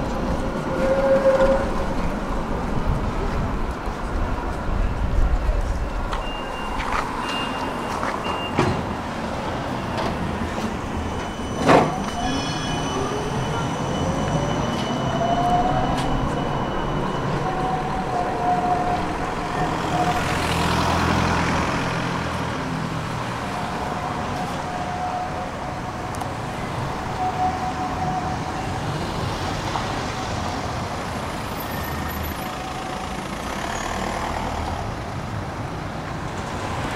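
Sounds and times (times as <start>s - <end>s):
cars passing: 0.0s - 36.9s
tram electric whine: 0.0s - 36.9s.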